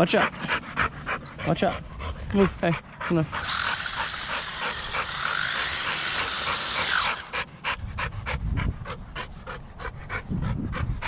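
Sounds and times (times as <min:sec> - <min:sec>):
dog panting rapidly: 0:00.0 - 0:11.0.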